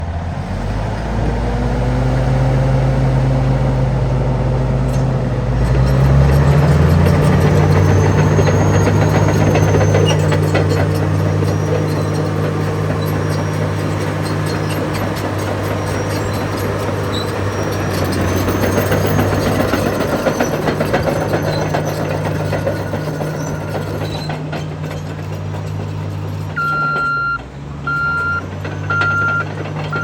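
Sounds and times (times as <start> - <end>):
bulldozer diesel engine revving: 0.0 - 30.0
metallic clanking of steel tracks: 4.7 - 30.0.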